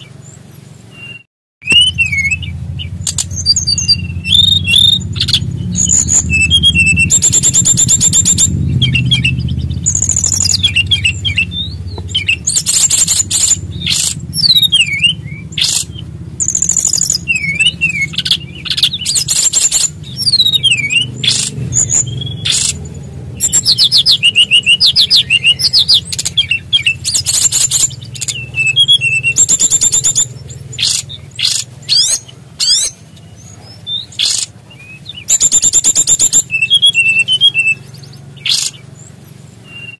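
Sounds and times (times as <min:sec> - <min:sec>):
songbird trills and whistles: 0:00.0 - 0:39.9.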